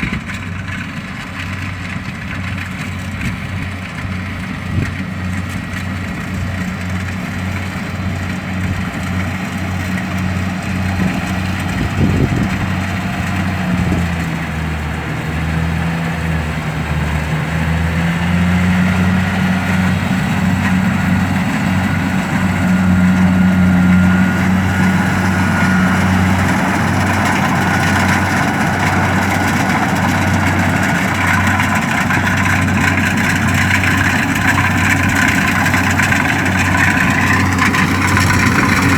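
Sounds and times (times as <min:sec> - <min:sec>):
combine harvester engine running: 0:00.0 - 0:38.9
high machinery whine: 0:02.5 - 0:38.9.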